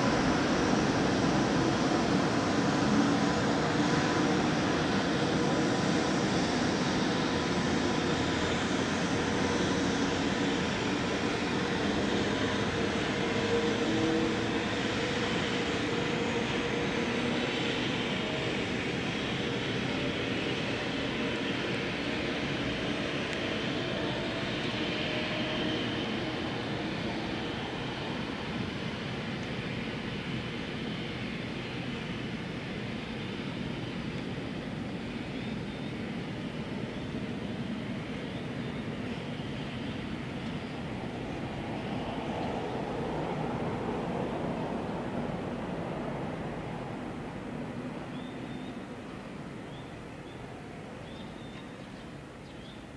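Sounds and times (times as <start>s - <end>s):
electric locomotive rumble: 0.0s - 52.9s.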